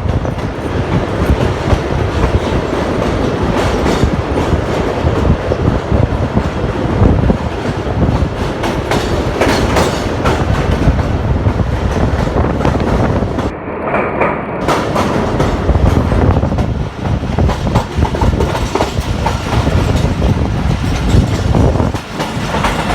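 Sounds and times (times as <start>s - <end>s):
clickety-clack over rail joints: 0.0s - 22.9s
train wheels rumbling on track: 0.0s - 22.9s.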